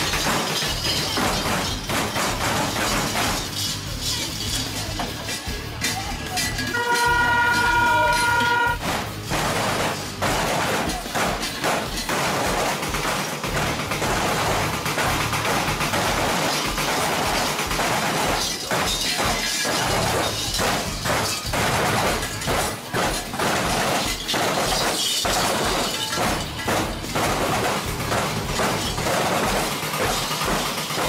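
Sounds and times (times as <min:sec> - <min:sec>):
loud music with bass beat: 0:00.0 - 0:31.0
metallic clanging of chains: 0:00.0 - 0:31.0.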